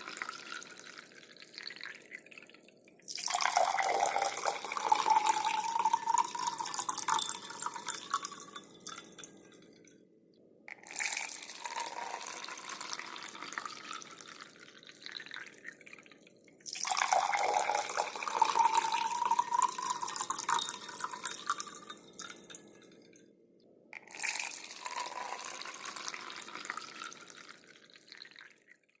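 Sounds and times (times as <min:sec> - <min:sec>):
water filling a glass: 0:00.0 - 0:10.0, 0:10.7 - 0:23.2, 0:24.0 - 0:28.8.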